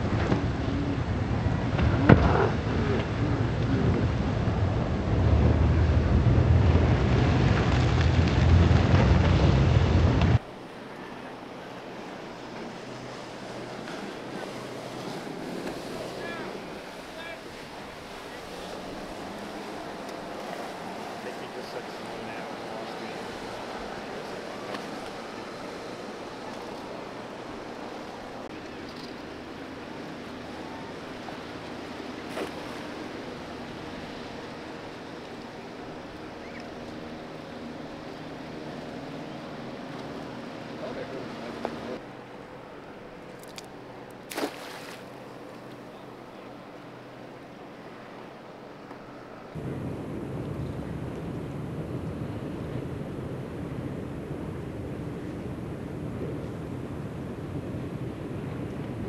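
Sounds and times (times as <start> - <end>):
watercraft engine drone: 0.0 - 59.0
waves washing: 0.0 - 59.0
wind: 0.0 - 59.0.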